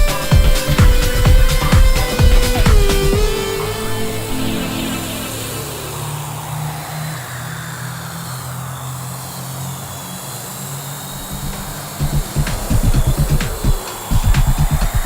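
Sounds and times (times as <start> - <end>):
drone rotors humming: 0.0 - 15.0.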